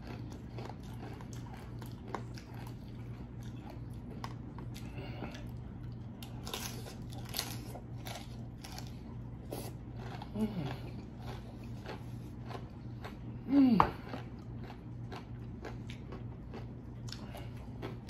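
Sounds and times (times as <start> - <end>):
chewing crisp food: 0.0 - 18.0.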